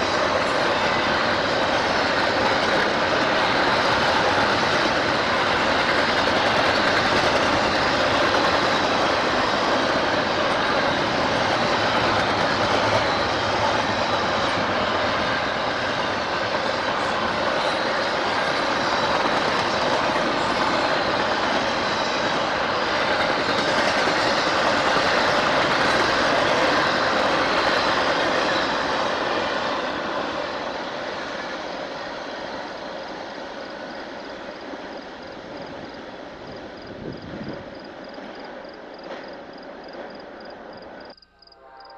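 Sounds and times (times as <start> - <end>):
train rolling on rails: 0.0 - 41.9.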